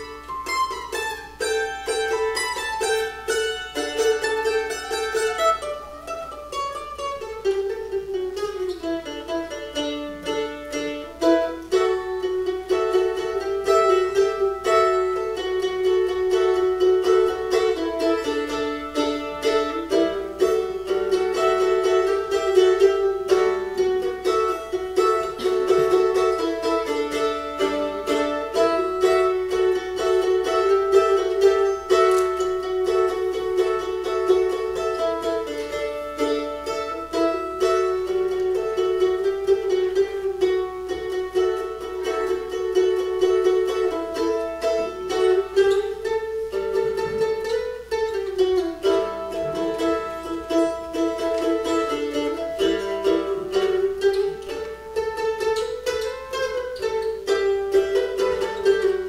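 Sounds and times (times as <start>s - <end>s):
mandolin melody: 0.0s - 59.0s.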